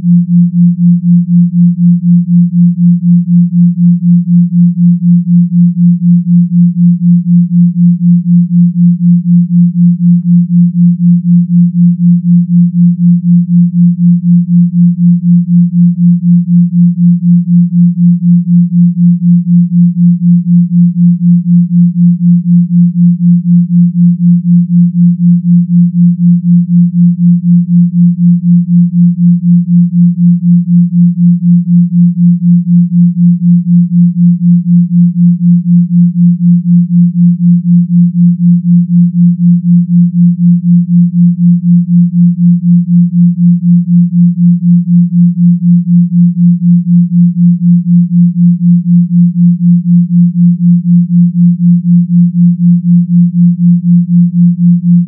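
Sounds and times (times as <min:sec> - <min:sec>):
low throbbing pure tone: 0:00.0 - 0:55.0.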